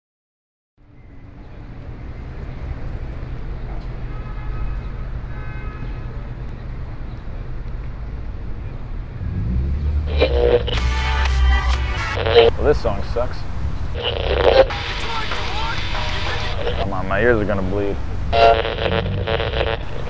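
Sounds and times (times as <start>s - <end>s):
distant traffic rumble: 0.8s - 20.0s.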